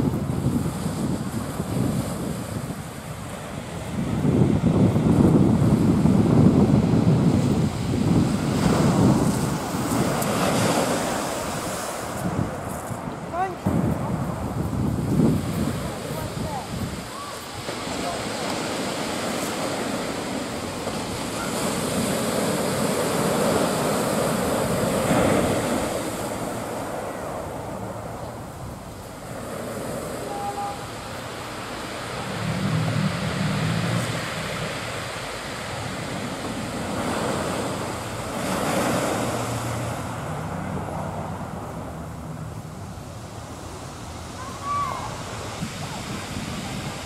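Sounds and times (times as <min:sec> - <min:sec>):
sea waves breaking on beach: 0:00.0 - 0:47.0.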